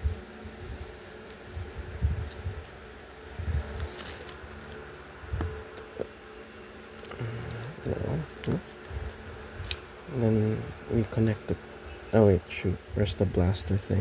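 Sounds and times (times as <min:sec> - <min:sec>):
low buzzing hum: 0:00.0 - 0:14.0.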